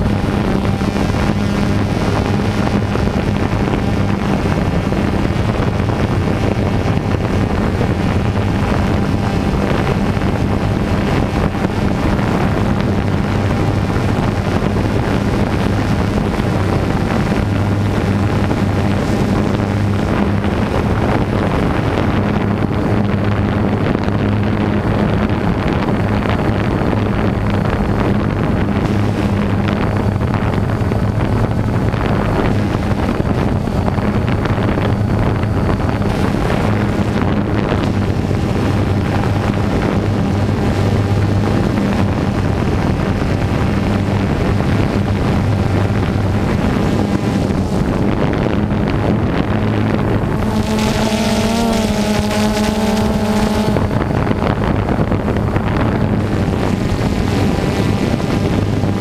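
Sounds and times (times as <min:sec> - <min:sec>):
drone motors humming: 0:00.0 - 0:59.0
wind on microphone: 0:00.0 - 0:59.0.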